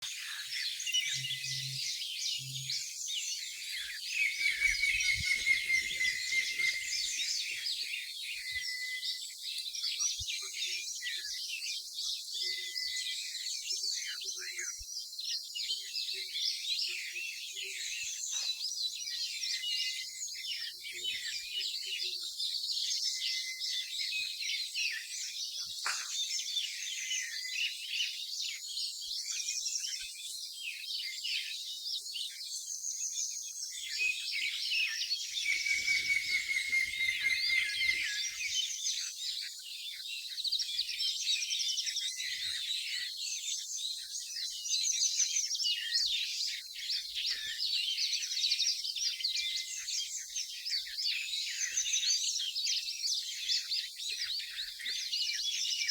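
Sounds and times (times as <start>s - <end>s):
small birds chirping and trilling: 0.0s - 55.9s.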